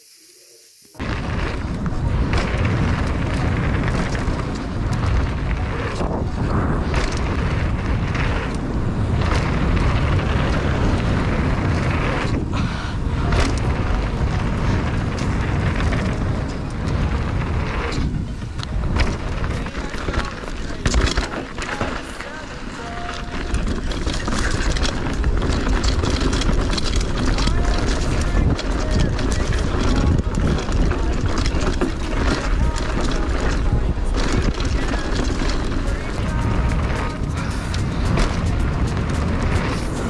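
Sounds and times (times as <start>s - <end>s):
bike knocks and rattles: 1.0s - 40.0s
bike tyres rolling on dirt: 1.0s - 40.0s
wind rush on microphone: 1.0s - 40.0s.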